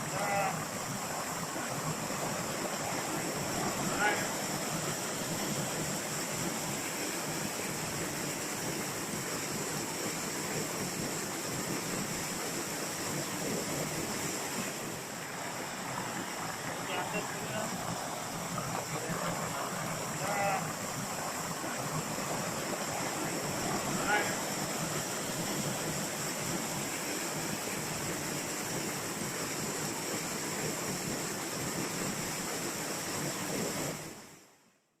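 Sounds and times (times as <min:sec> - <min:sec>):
waterfall rushing: 0:00.0 - 0:31.5.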